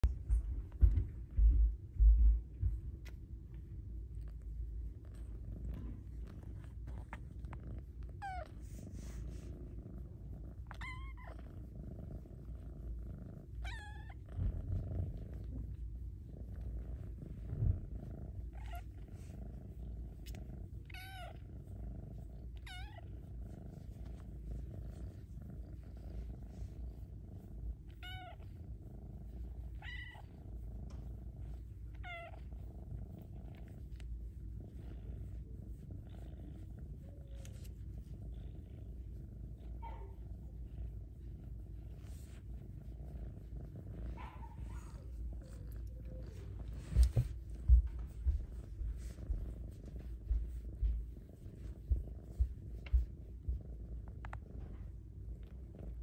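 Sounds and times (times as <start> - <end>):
kitten purring: 0.0 - 56.0.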